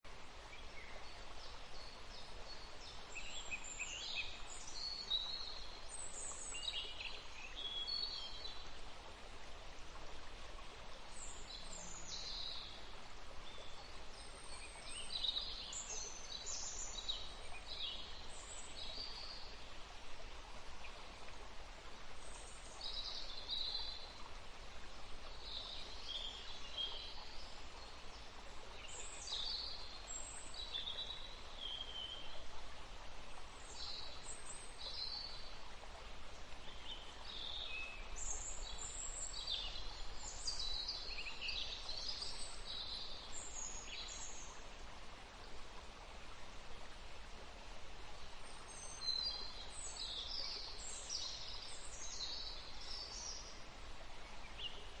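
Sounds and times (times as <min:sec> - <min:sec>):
songbirds chirping: 0:00.0 - 0:55.0
steady background hiss: 0:00.1 - 0:55.0.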